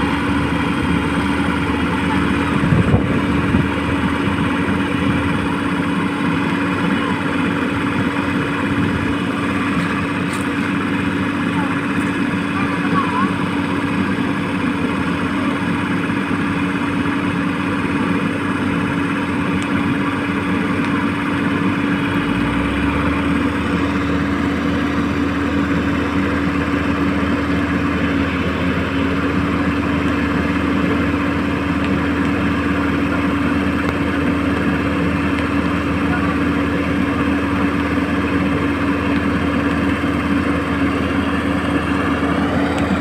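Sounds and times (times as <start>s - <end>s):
deeper hum: 0.0s - 43.0s
model excavator motor hum: 0.0s - 43.0s.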